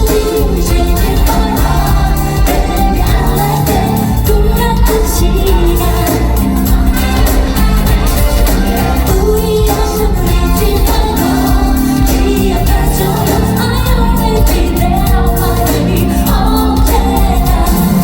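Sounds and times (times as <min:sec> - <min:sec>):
loud backing music: 0:00.0 - 0:18.0
woman singing: 0:00.0 - 0:18.0.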